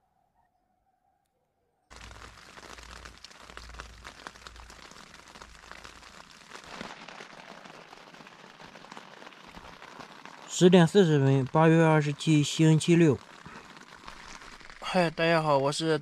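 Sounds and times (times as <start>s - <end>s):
rain pattering on tent: 1.9s - 16.0s.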